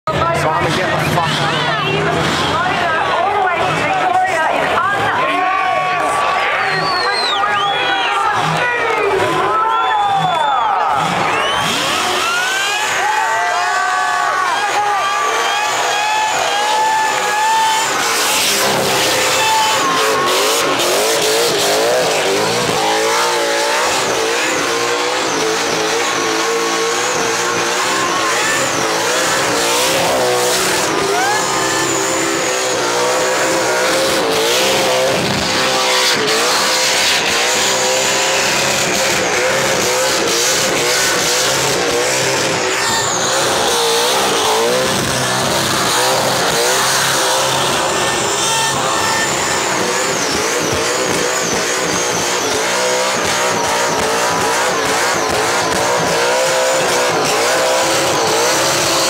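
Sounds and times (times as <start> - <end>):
car engine revving high: 0.0 - 59.0
tyres screaming spinning: 0.1 - 59.0.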